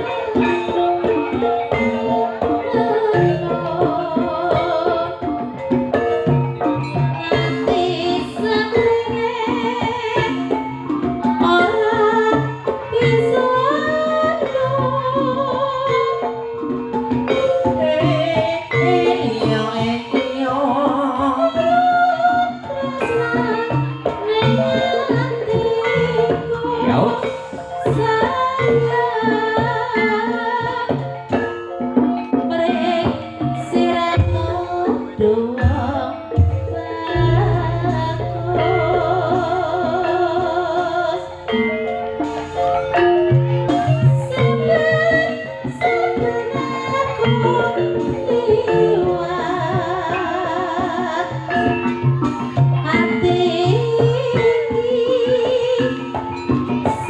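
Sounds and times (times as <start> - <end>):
hand drums: 0.0 - 57.0
live band music: 0.0 - 57.0.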